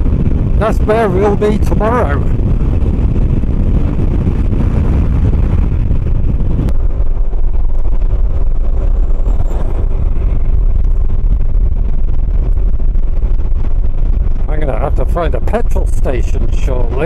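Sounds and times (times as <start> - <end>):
wind rush over microphone: 0.0 - 17.0.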